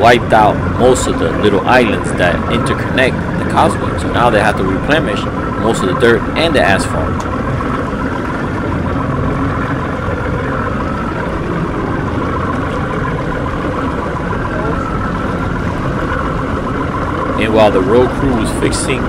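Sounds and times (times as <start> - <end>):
hull rushing through water: 0.0 - 19.0
motorboat engine running: 0.0 - 19.0.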